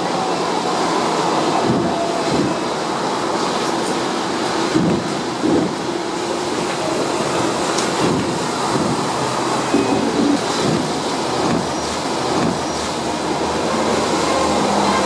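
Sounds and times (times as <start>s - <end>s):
tram rumbling and rattling on rails: 0.0s - 15.0s.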